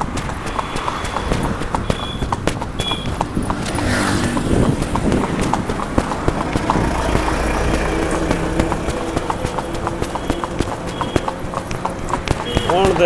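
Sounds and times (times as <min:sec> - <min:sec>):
hooves clip-clopping on asphalt: 0:00.0 - 0:13.0
vehicle engine rumbling past: 0:00.0 - 0:13.0.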